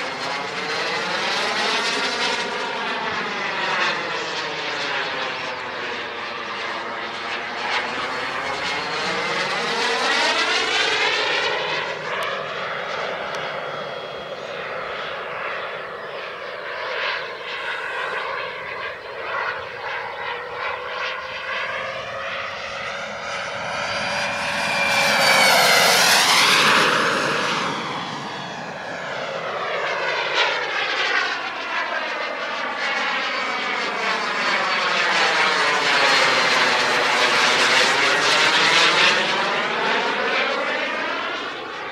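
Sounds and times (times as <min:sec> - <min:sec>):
model jet turbine whining: 0:00.0 - 0:41.9.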